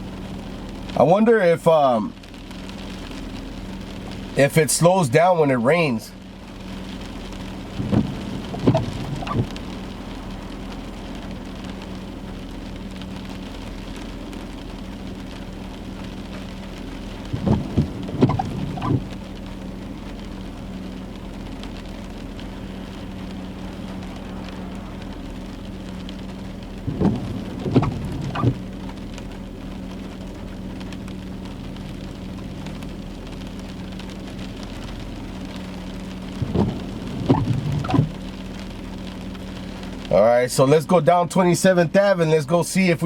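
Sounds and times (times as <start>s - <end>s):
constant low hum: 0.0s - 43.0s
steady rain falling: 0.0s - 43.0s.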